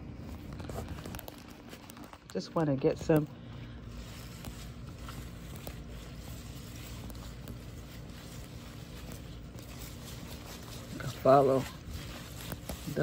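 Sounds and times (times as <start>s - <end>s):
faint crackles: 0.0s - 13.0s
steady low hum: 0.0s - 13.0s
leaves rustling: 0.2s - 13.0s.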